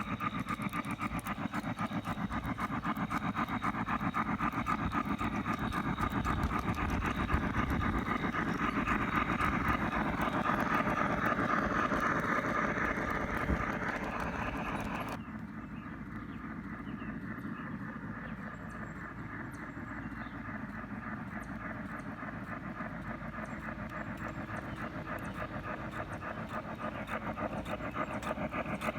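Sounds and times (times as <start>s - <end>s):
model train rumbling on track: 0.0s - 28.9s
rapid clicking of wheels: 0.0s - 28.9s.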